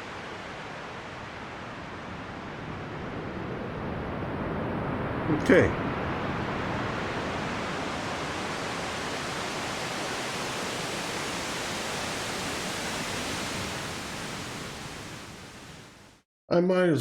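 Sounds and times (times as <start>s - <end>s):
synthesized ocean waves: 0.0s - 16.2s.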